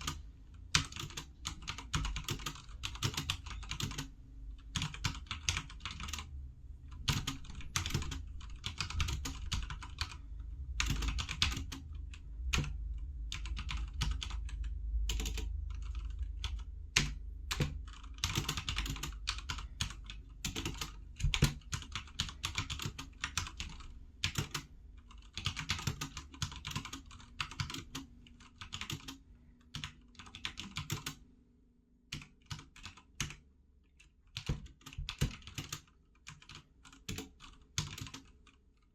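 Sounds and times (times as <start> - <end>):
mechanical keyboard typing: 0.0 - 6.3, 6.9 - 10.2, 10.8 - 31.2, 32.1 - 33.4, 34.0 - 38.6.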